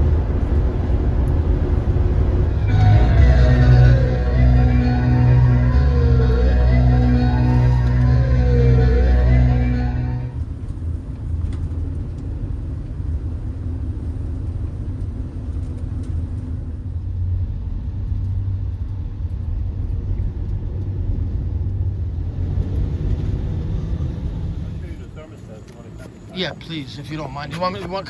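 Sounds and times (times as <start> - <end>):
vehicle road and engine rumble: 0.0 - 28.0.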